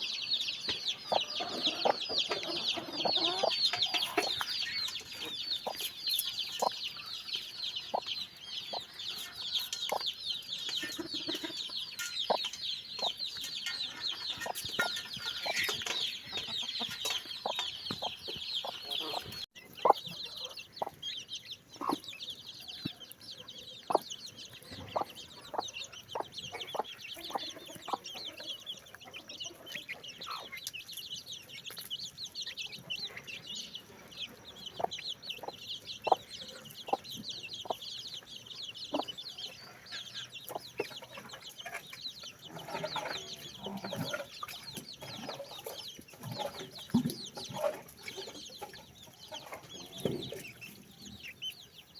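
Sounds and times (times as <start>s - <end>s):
baby chicks peeping: 0.0s - 51.9s.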